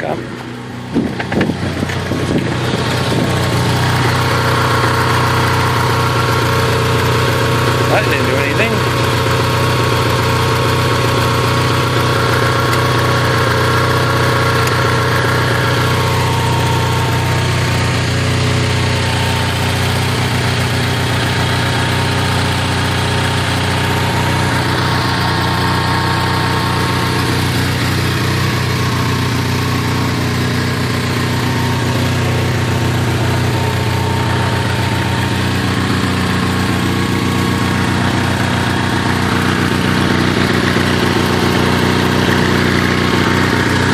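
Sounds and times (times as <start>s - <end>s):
generator engine droning: 0.0s - 43.9s.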